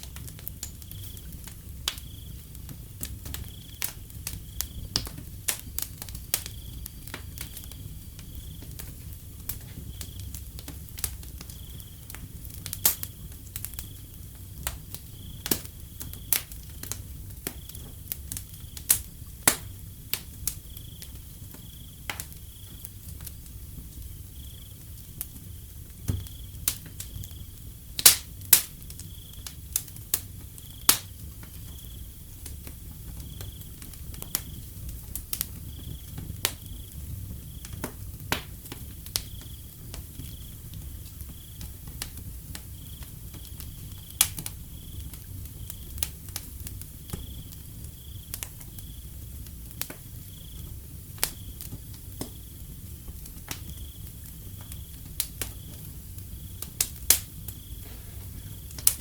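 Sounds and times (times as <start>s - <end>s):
wood fire crackling: 0.0s - 59.0s
cricket chirping: 0.1s - 59.0s.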